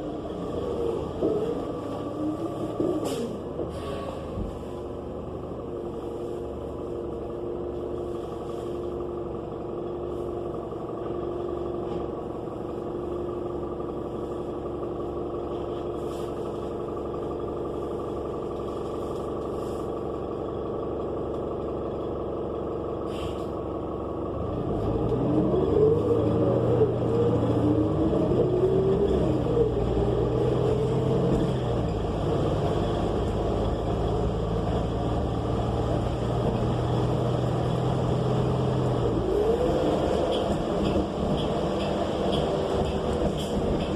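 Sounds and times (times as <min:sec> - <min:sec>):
bus accelerating with gear shifts: 0:00.0 - 0:43.9
bus engine running: 0:00.0 - 0:43.9.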